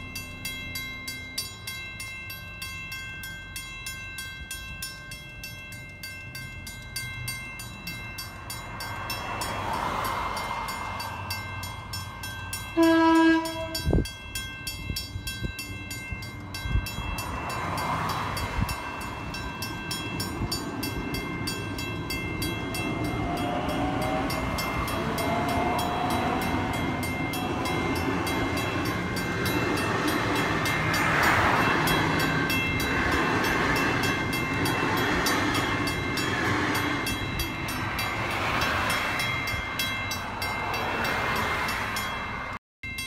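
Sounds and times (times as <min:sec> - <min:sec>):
crossing warning bell: 0:00.0 - 0:43.0
train rumbling on rails: 0:00.0 - 0:43.0.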